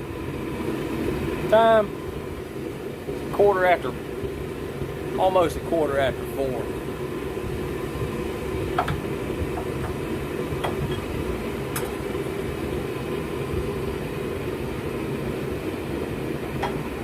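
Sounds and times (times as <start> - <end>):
gas forge burner rushing: 0.0 - 17.0.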